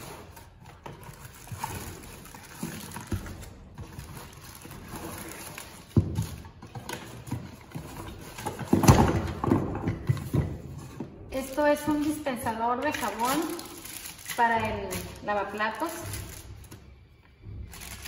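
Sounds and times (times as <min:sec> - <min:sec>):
plastic wrapping crinkling: 0:00.0 - 0:09.4, 0:11.3 - 0:17.0, 0:17.6 - 0:18.0.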